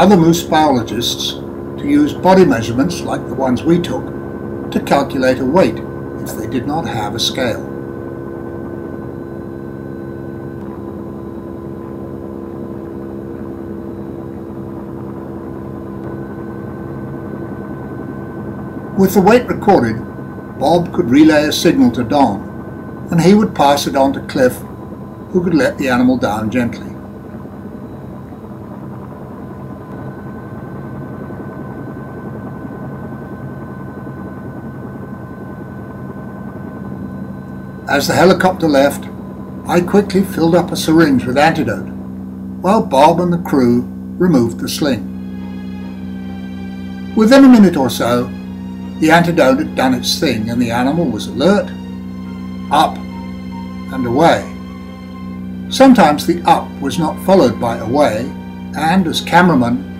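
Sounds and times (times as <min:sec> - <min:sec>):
faint high whine: 0:00.0 - 0:59.9
helicopter hovering: 0:00.0 - 0:59.9.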